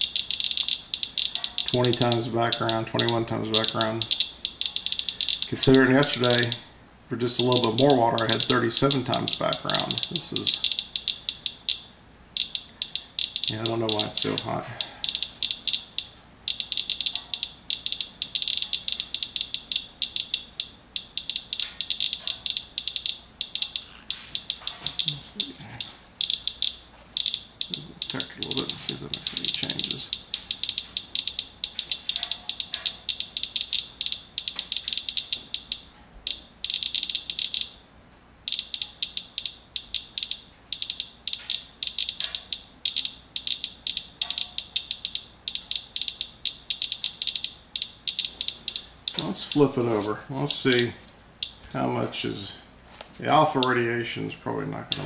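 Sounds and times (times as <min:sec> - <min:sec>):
geiger counter chirping: 0:00.0 - 0:37.8, 0:38.4 - 0:49.9, 0:51.4 - 0:51.7.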